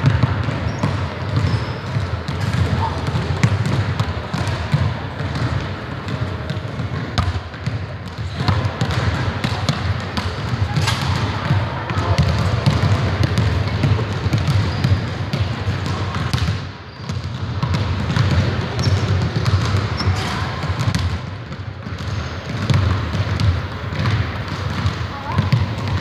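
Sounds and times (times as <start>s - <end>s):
basketballs dribbling on hardwood floor: 0.0s - 26.0s.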